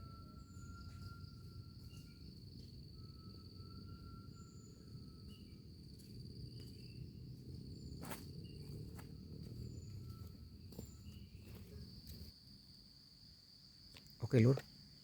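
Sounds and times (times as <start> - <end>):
faint chirps: 0.0 - 12.3
insects trilling: 0.0 - 15.0.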